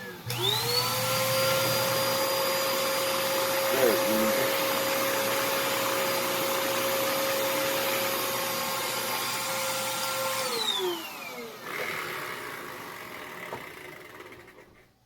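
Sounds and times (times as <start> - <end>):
vacuum motor winding down: 0.0 - 14.8
vacuum cleaner running: 0.0 - 14.9.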